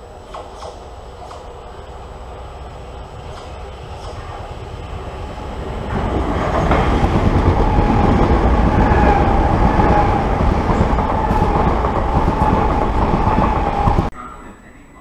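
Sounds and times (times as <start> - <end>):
train wheels rumbling on rails: 0.0 - 14.1
train steady whine: 0.0 - 15.0.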